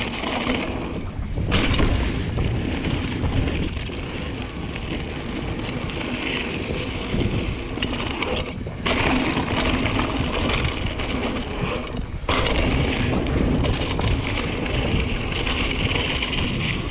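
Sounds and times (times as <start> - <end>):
bike clicks and rattles: 0.0 - 16.9
bike tyres crunching on gravel: 0.0 - 16.9
wind buffeting microphone: 0.0 - 16.9.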